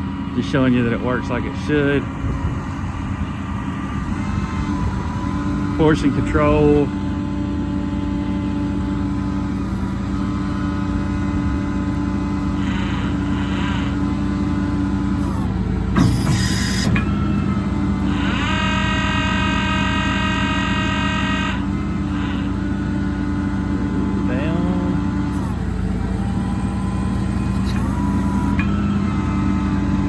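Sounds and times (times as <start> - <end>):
crane hydraulic whine: 0.0 - 30.0
diesel engine running: 0.0 - 30.0.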